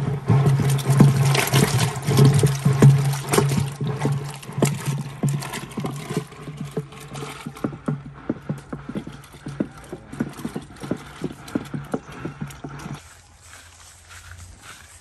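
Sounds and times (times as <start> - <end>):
wooden churn knocking: 0.0 - 13.0
yogurt sloshing in pot: 0.0 - 13.0.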